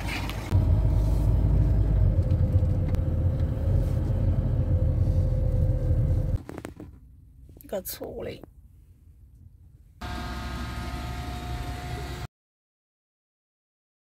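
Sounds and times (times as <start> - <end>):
vehicle engine and road rumble: 0.0 - 12.3.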